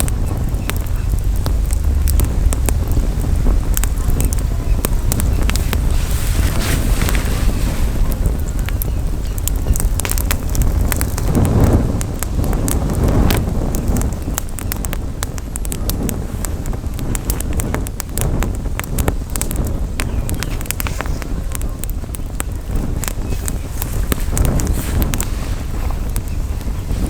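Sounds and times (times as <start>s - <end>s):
campfire crackling and popping: 0.0s - 27.0s
wind rumble on microphone: 0.0s - 27.0s.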